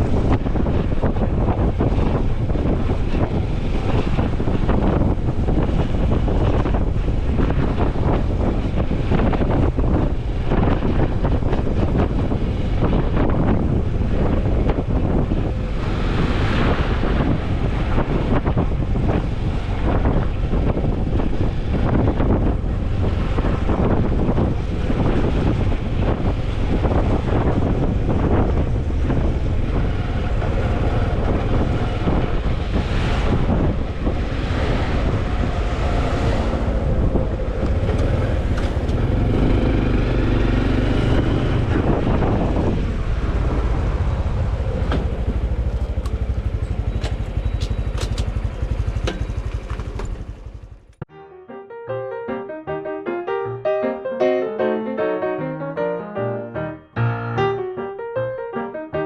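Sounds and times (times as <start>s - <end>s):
wind buffeting microphone: 0.0s - 51.0s
motorcycle engine running: 0.0s - 51.1s.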